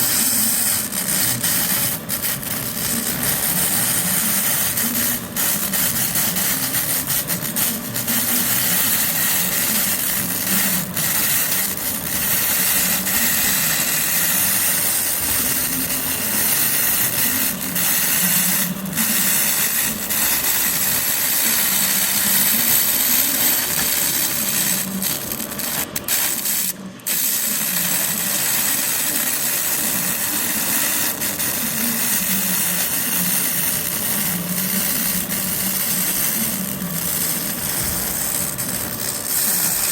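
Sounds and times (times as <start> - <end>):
laser cleaner hissing: 0.0 - 39.9.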